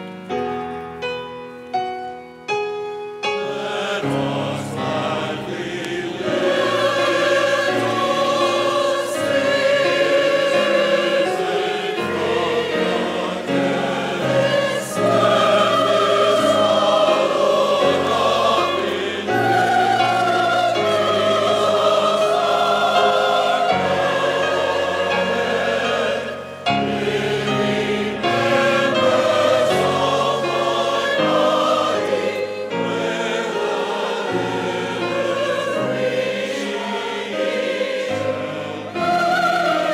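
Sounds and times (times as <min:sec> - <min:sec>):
church choir singing: 0:00.0 - 0:39.9
grand piano accompaniment: 0:00.0 - 0:39.9.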